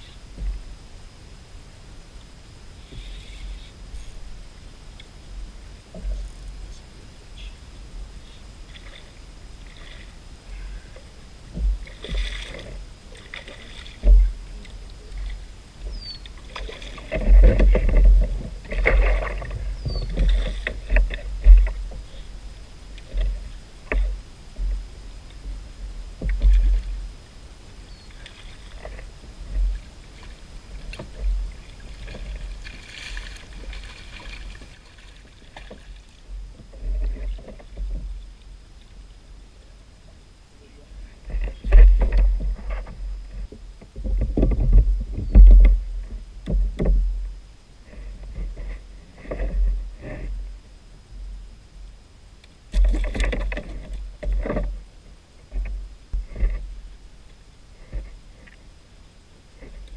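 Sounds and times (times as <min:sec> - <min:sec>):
knocks and bumps in a kayak: 0:00.0 - 0:00.8, 0:05.3 - 0:06.8, 0:07.4 - 0:27.2, 0:28.0 - 0:39.0, 0:40.9 - 0:51.5, 0:52.4 - 0:58.7, 0:59.5 - 0:59.9.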